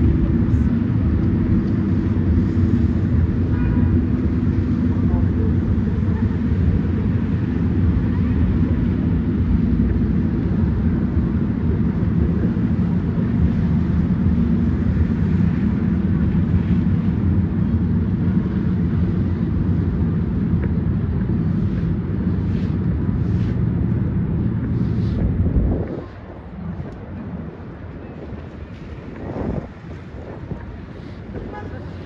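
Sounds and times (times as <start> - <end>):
city traffic drone: 0.0 - 32.0
wind buffeting microphone: 0.0 - 32.0.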